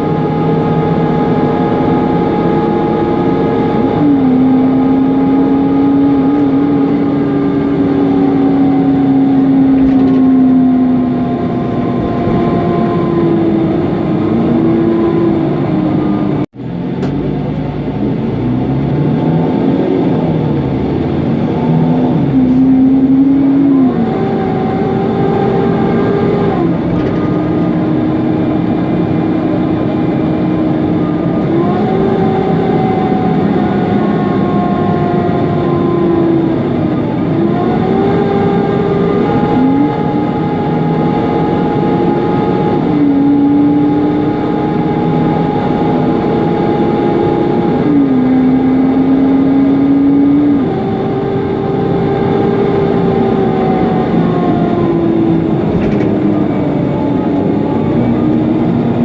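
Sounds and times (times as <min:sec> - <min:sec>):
bus engine running: 0:00.0 - 0:59.0
cooling fan drone: 0:00.0 - 0:59.0
whining tone rising and falling: 0:00.0 - 0:59.0.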